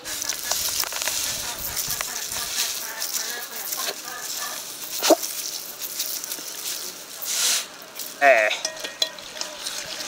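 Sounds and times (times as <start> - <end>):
seasoning grains pattering: 0.0 - 10.0.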